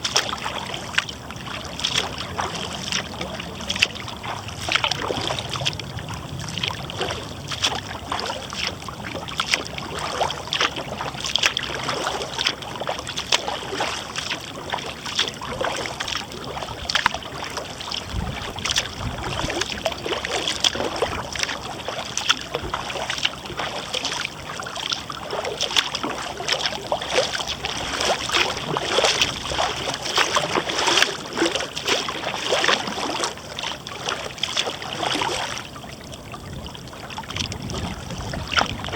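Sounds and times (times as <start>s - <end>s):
kayak paddle splashing water: 0.0s - 38.9s.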